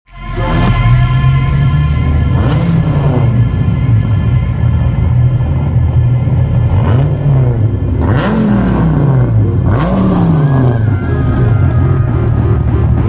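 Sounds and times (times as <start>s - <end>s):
car engine idling and revving: 0.1s - 13.0s.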